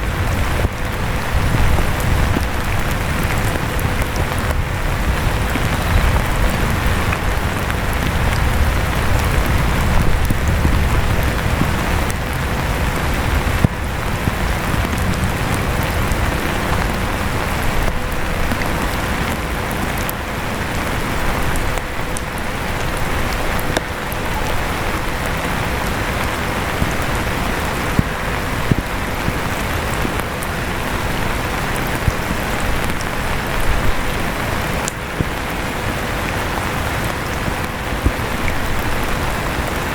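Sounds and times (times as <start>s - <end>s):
electric fan humming: 0.0s - 39.9s
steady rain: 0.0s - 39.9s.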